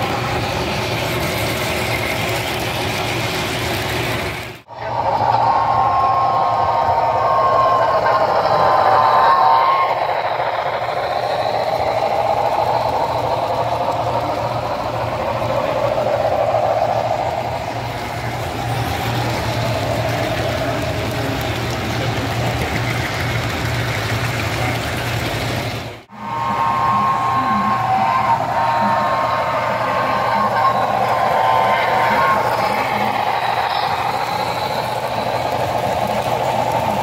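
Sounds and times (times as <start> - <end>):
model locomotive sound effects: 0.0 - 37.0
model train wheels rumbling on track: 0.0 - 37.0.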